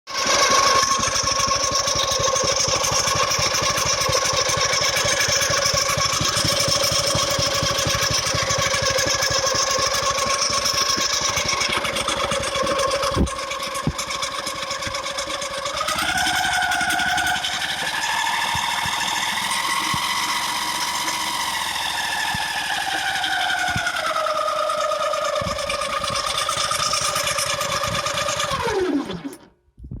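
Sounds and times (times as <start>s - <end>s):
fast rattle: 0.1s - 29.4s
whistling whine: 0.7s - 29.5s.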